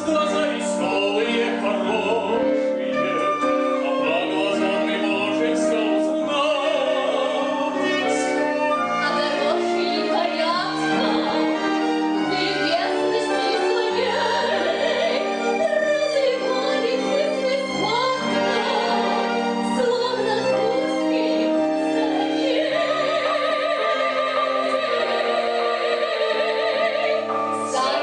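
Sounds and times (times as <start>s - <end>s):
instrumental accompaniment: 0.0s - 28.0s
operatic duet singing: 0.0s - 28.0s.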